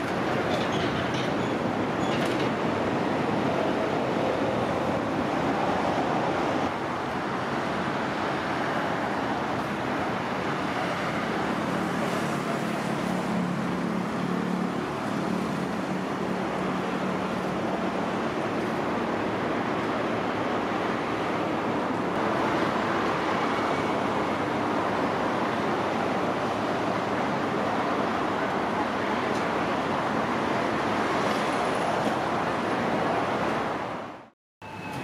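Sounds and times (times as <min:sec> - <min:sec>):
bus engine humming: 0:00.0 - 0:35.0
city street traffic: 0:00.0 - 0:35.0.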